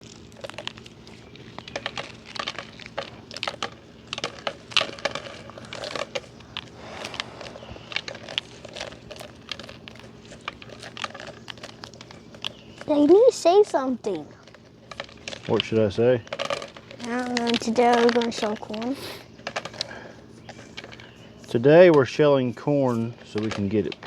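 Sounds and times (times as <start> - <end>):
corn kernels clicking off cob: 0.0 - 13.3, 14.4 - 20.0, 23.0 - 24.0.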